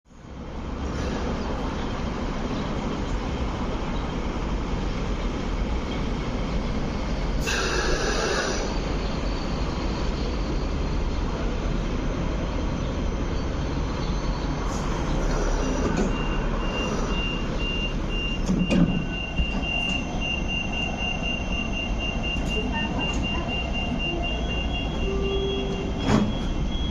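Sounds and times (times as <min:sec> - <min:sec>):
light rail train rumbling to a stop: 0:00.1 - 0:26.9.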